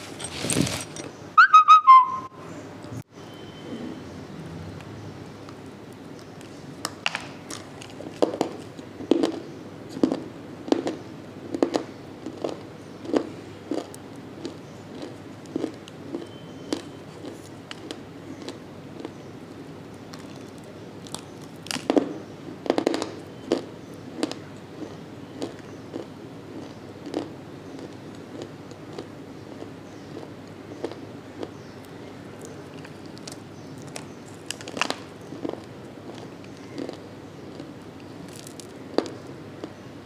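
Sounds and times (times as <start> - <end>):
crisp chewing crunches: 6.2 - 39.8.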